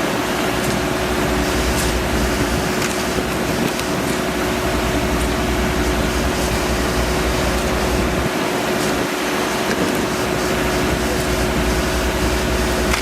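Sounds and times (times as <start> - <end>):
machine humming and rumbling: 0.0 - 13.0.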